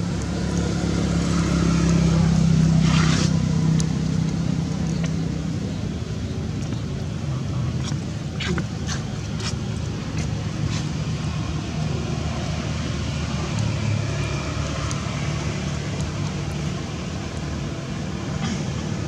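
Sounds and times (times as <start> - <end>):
motor vehicle engine rumble: 0.0 - 19.0.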